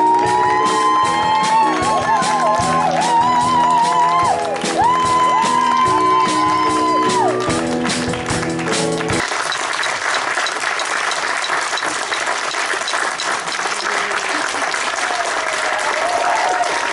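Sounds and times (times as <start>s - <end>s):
live stage music: 0.0s - 15.2s
audience applauding: 0.0s - 16.9s.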